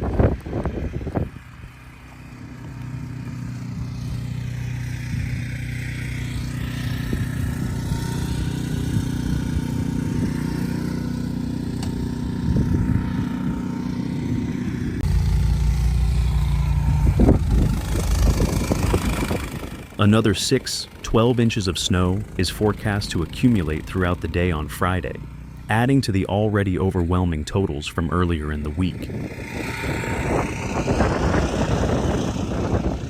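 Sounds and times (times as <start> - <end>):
vehicle engine rumbling: 0.0 - 33.0.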